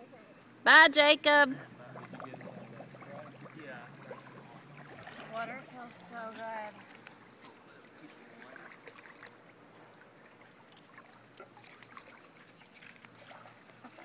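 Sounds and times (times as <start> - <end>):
pool water lapping: 0.0 - 14.0
small splashes: 1.6 - 14.0.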